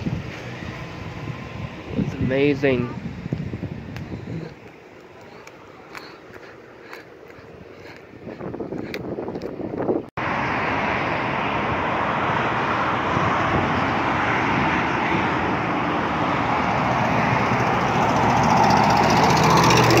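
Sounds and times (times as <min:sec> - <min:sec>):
highway traffic rushing: 0:00.0 - 0:20.0.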